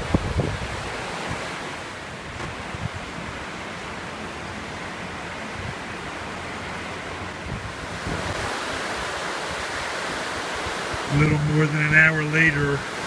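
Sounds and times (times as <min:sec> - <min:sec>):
river water rushing over rocks: 0:00.0 - 0:13.0
wind buffeting microphone: 0:00.0 - 0:13.0.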